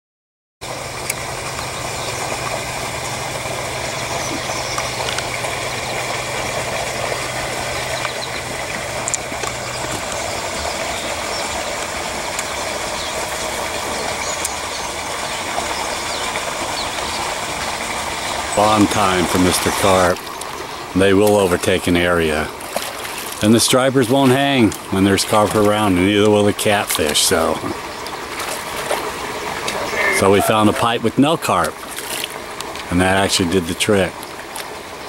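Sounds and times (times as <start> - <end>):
low steady hum: 0.6 - 35.0
water pouring and splashing: 0.6 - 35.0.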